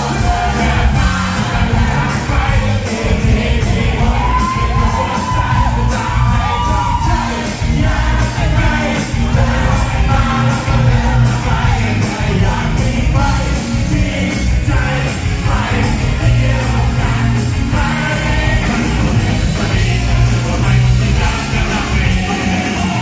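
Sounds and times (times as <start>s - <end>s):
live pop-rock band: 0.0s - 23.0s
man singing: 0.0s - 23.0s.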